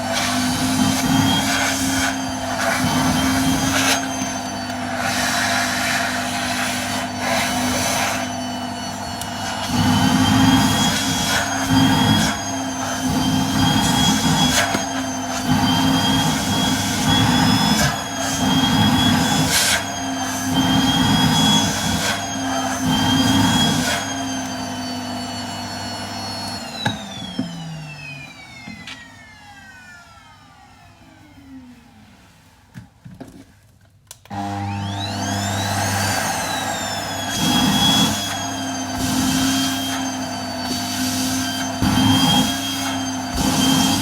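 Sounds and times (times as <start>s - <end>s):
vacuum cleaner whining: 0.0s - 33.5s, 34.1s - 44.0s.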